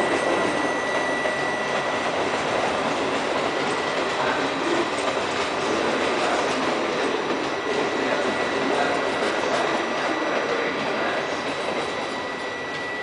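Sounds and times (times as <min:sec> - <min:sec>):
high-pitched whine: 0:00.0 - 0:13.0
train wheels rumbling on rails: 0:00.0 - 0:13.0.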